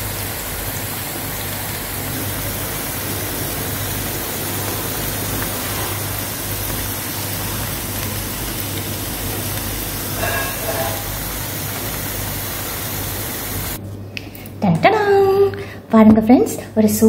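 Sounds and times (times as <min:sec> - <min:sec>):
food deep-frying in oil: 0:00.0 - 0:13.8.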